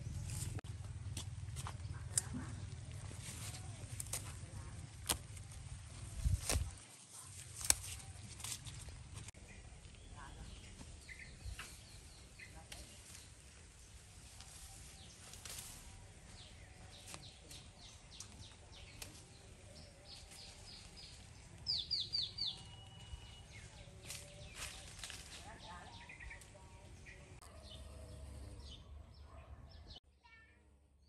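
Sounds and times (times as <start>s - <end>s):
songbirds chirping: 0.0s - 30.3s.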